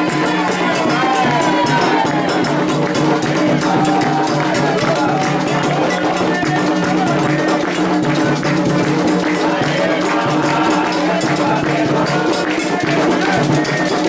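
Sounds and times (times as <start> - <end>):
drums and percussion: 0.0 - 14.0
voices singing: 0.0 - 14.0.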